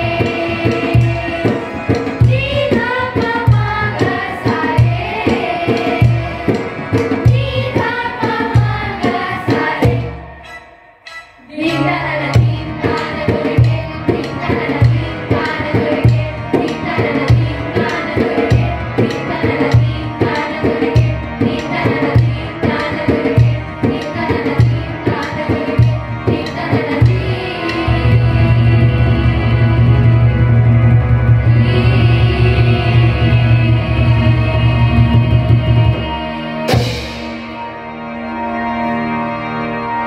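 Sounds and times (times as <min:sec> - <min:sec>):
children singing: 0:00.0 - 0:30.4, 0:31.4 - 0:39.8
tabla beat: 0:00.0 - 0:36.1, 0:36.7 - 0:37.7.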